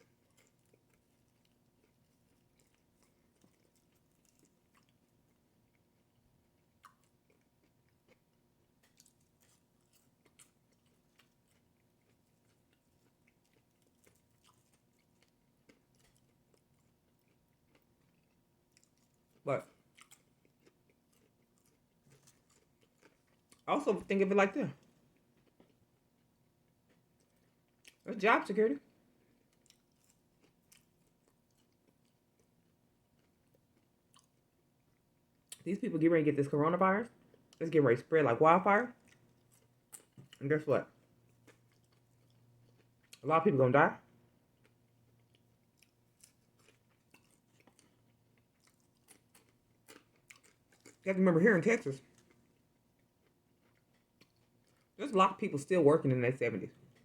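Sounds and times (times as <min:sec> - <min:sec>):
person chewing: 0:00.0 - 0:24.0, 0:24.7 - 0:28.1, 0:28.8 - 0:35.7, 0:38.9 - 0:43.2, 0:44.5 - 0:51.1, 0:52.0 - 0:55.0, 0:56.7 - 0:57.0.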